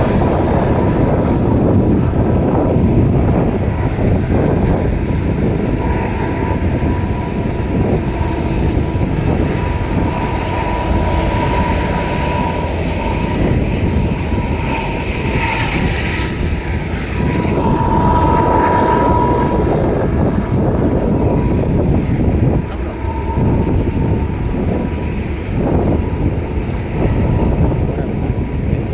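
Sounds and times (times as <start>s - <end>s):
thin high tone: 0.0s - 27.6s
freight train rumbling on rails: 0.0s - 28.9s.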